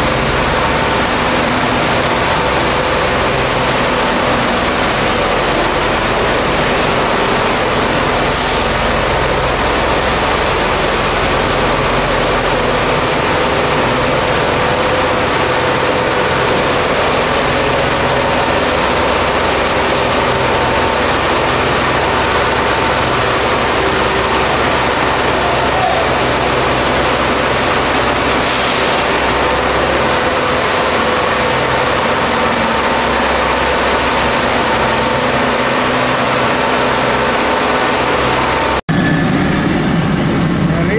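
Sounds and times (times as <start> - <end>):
engine and pump running: 0.0 - 40.9.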